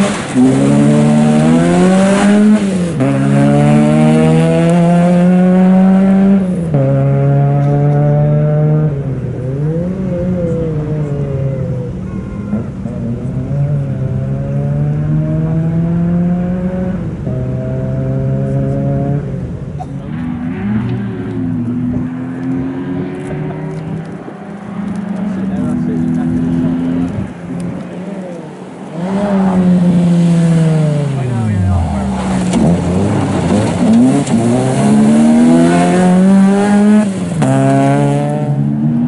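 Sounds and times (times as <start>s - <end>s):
rally car engine accelerating: 0.0s - 39.0s.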